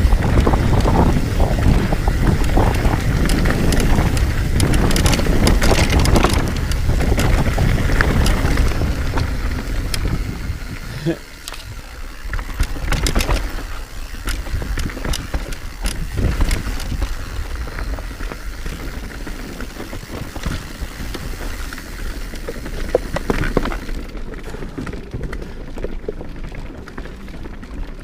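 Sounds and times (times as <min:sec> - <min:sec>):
bike clicking and rattling: 0:00.0 - 0:28.0
bike tyres rolling on dirt: 0:00.0 - 0:28.0.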